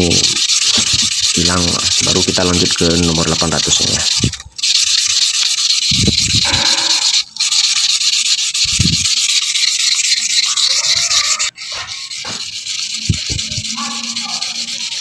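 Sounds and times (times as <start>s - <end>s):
stone scraping on wet sandpaper: 0.0s - 15.0s.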